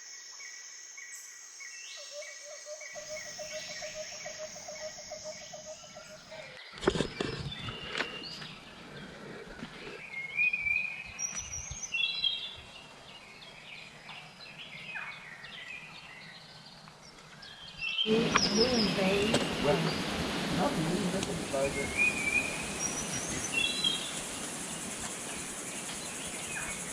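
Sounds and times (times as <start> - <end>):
birds chirping and calling: 2.0 - 26.9.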